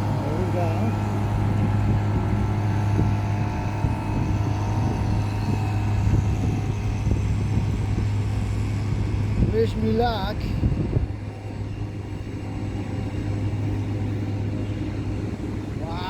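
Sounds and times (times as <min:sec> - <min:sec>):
motor boat engine droning: 0:00.0 - 0:16.0.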